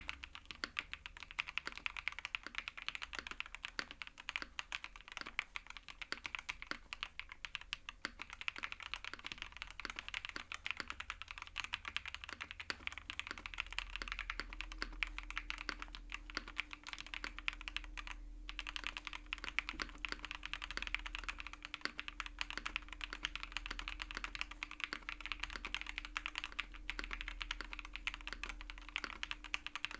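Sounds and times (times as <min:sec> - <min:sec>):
fast typing on mechanical keyboard: 0:00.0 - 0:29.9.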